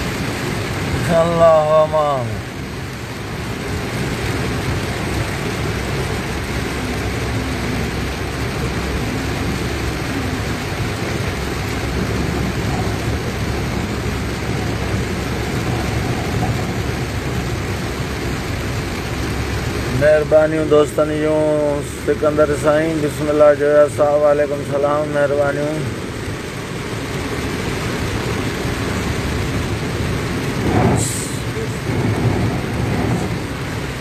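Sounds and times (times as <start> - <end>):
car running: 0.0 - 34.0
heavy rain on car roof: 0.0 - 34.0
wet road noise: 0.0 - 34.0.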